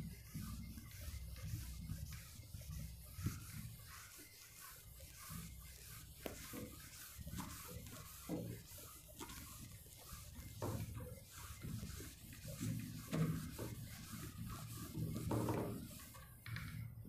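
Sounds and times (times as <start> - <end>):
pen scratching while writing: 0.2 - 16.3.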